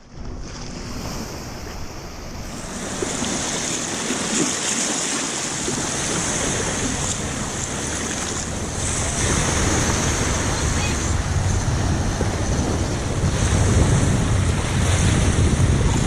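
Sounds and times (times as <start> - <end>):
wind on microphone: 0.0 - 16.0
small waves washing on sand: 0.3 - 16.0.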